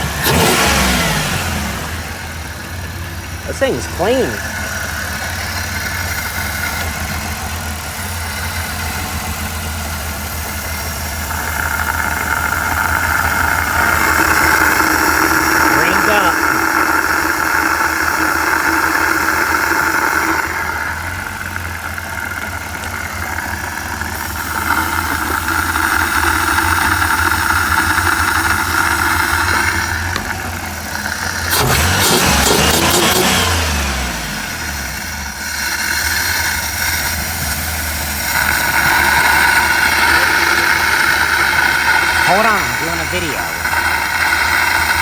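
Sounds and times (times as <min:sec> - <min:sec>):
van engine running and revving: 0:00.0 - 0:45.0.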